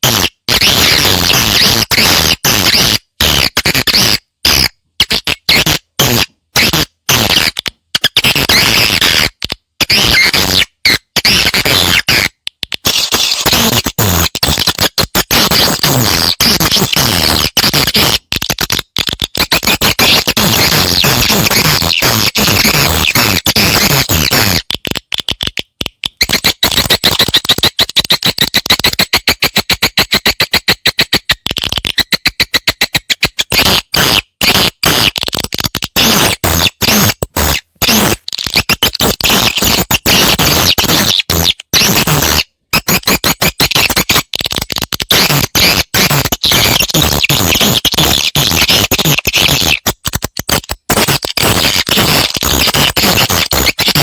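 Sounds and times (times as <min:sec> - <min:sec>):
recorded swiftlet chirps and clicks: 0:00.0 - 0:54.0.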